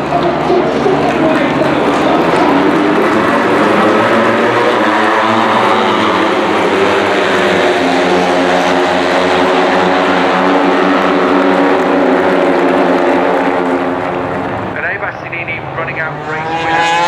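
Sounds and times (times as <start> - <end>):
loud steady engine: 0.0 - 17.0.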